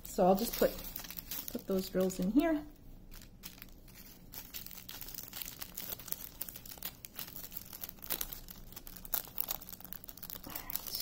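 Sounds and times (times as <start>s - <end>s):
plastic baggies crinkling: 0.0s - 11.0s.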